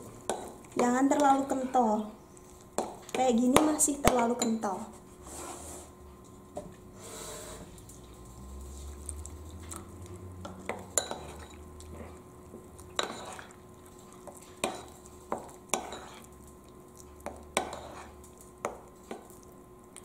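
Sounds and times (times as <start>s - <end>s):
spoon stirring thick batter: 0.1s - 5.6s, 7.7s - 19.4s.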